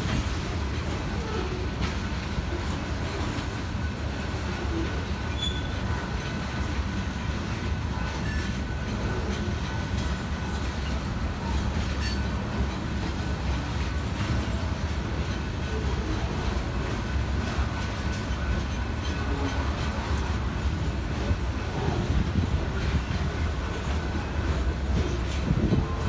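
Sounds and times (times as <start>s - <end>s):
freight train wheels rumbling on rail: 0.0s - 26.0s.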